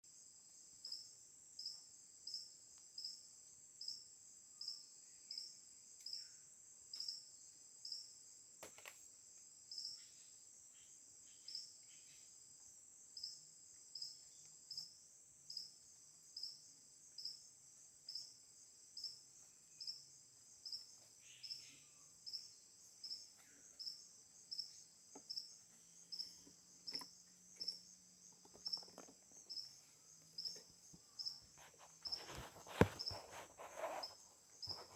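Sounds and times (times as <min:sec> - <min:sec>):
insect chirp: 0:00.1 - 0:34.9
insects trilling: 0:00.2 - 0:34.9.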